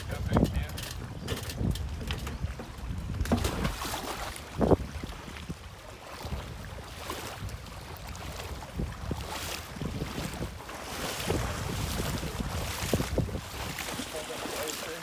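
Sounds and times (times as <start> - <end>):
wind buffeting microphone: 0.0 - 14.8
water sloshing: 0.0 - 15.0.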